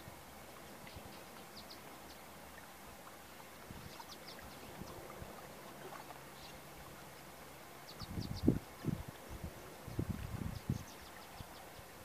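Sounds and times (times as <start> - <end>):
faint water: 0.0 - 12.0
faint wind: 0.0 - 12.0
small birds chirping: 0.6 - 5.0, 5.8 - 12.0.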